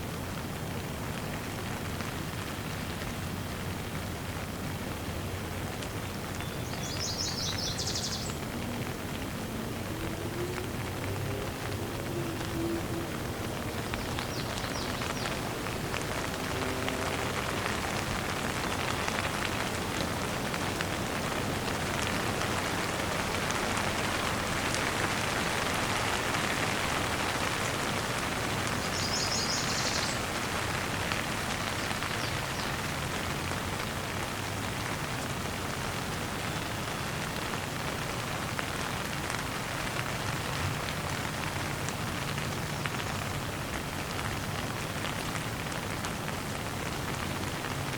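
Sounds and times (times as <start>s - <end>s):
rain pattering on ground: 0.0s - 47.9s.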